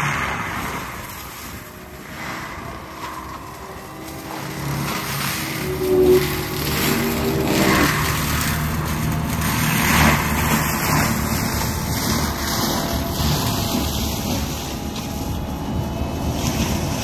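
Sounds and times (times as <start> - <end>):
diesel engine running under load: 0.0 - 17.0
forestry mulcher shredding scrub: 0.0 - 17.0.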